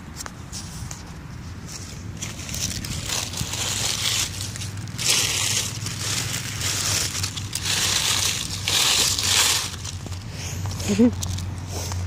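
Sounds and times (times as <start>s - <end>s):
dry leaves crunching: 0.6s - 12.0s.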